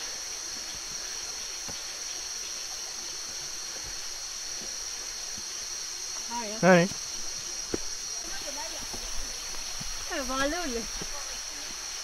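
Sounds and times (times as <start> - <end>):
faint hiss: 0.0 - 12.0
insects droning: 0.0 - 12.0.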